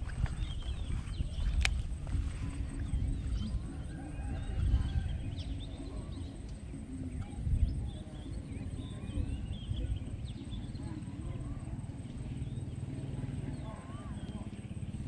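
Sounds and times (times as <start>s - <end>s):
birds chirping: 0.0s - 15.0s
low rumble: 0.0s - 15.0s.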